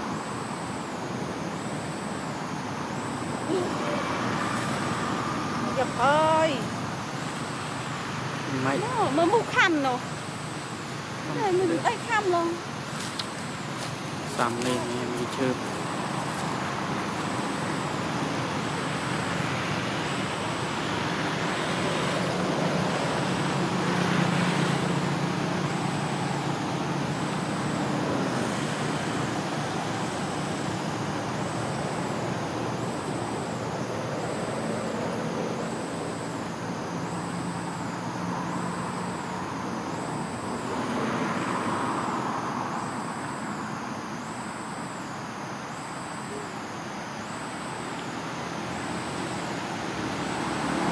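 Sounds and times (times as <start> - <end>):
distant traffic: 0.0 - 50.9.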